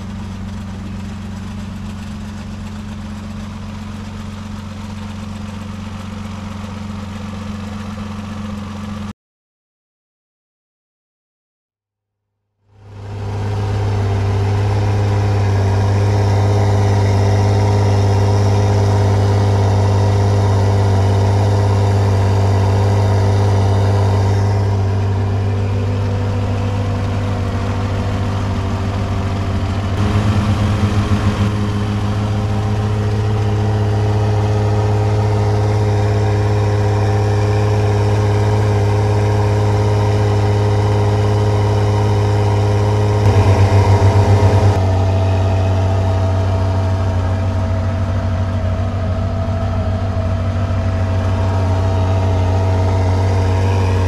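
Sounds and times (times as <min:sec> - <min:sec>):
car engine droning: 0:00.0 - 0:09.1, 0:12.6 - 0:54.0.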